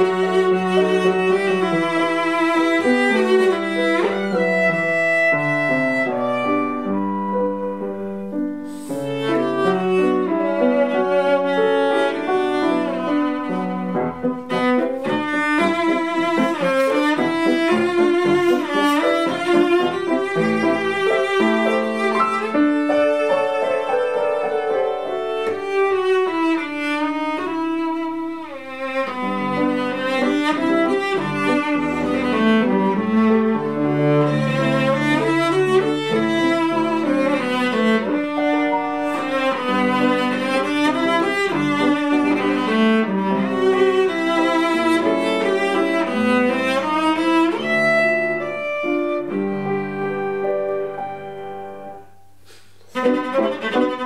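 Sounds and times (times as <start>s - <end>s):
solo bowed cello: 0.0s - 52.2s, 52.8s - 54.0s.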